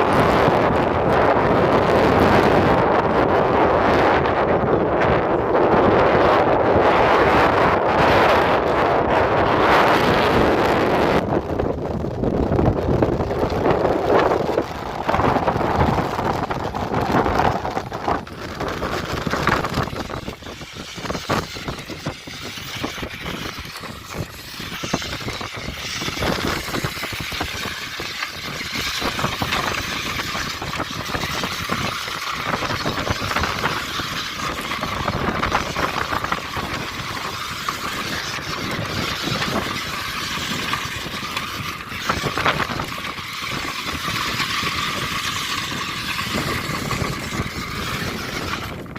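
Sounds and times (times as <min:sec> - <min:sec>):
wheels and chassis rattling: 0:00.0 - 0:48.9
toy truck motor whine: 0:07.0 - 0:48.9.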